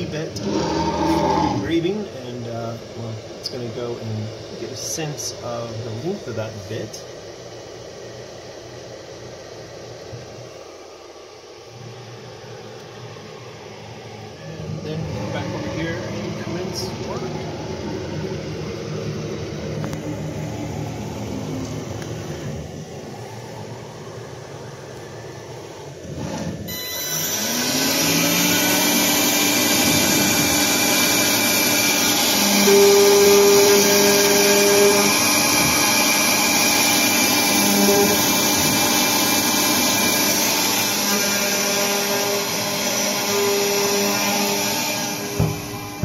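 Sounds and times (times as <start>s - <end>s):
milling spindle whine: 0.0s - 46.0s.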